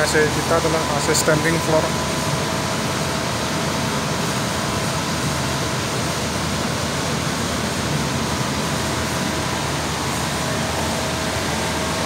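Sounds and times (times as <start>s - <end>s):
air conditioner blower running: 0.0s - 12.0s.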